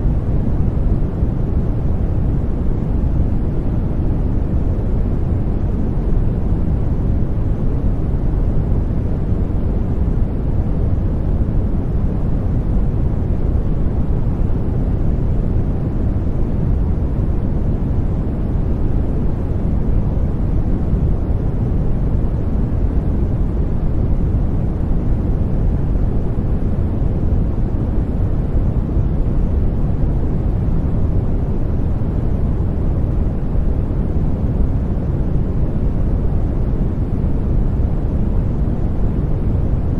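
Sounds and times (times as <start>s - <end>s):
deep white noise rush: 0.0s - 39.9s.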